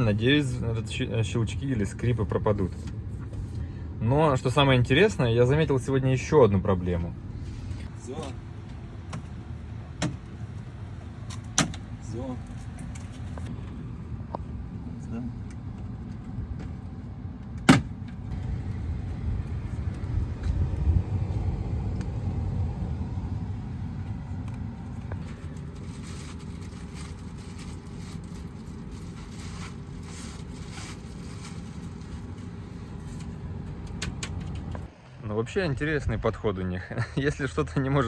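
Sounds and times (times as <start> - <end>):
car road rumble: 0.0 - 35.2.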